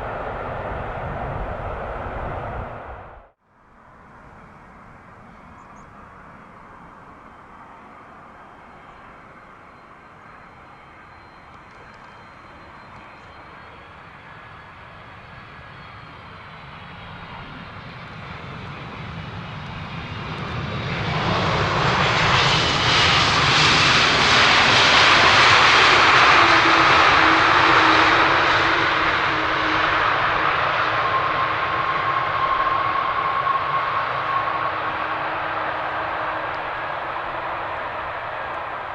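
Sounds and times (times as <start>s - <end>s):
jet airliner engine noise: 0.0s - 38.9s
jet engine whine: 0.0s - 38.9s.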